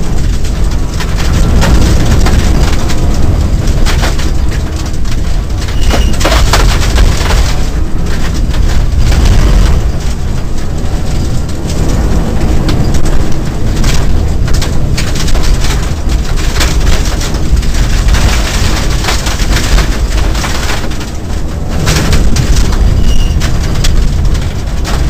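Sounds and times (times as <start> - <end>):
engine and road rumble: 0.0 - 25.0
gravel striking car: 0.0 - 25.0.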